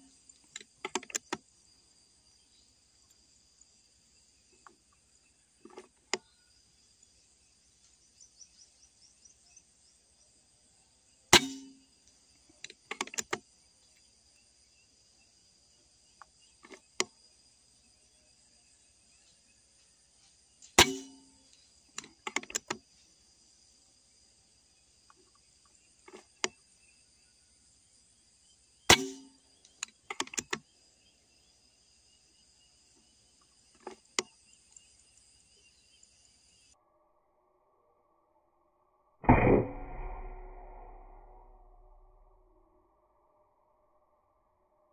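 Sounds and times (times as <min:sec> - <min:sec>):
high insect drone: 0:00.0 - 0:38.2.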